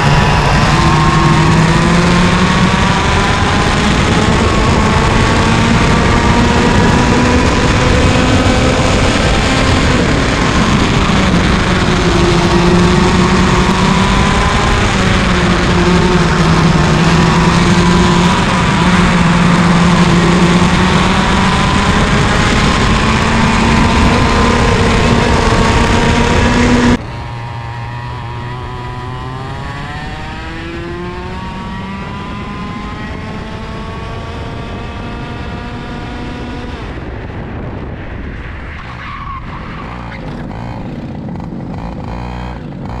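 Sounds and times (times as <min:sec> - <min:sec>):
kart engine revving: 0:00.0 - 0:37.0, 0:38.8 - 0:43.0.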